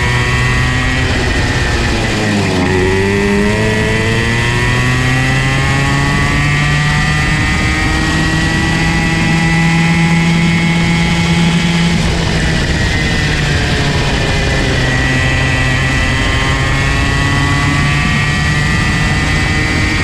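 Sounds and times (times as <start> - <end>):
two-stroke kart engine revving: 0.0 - 20.0.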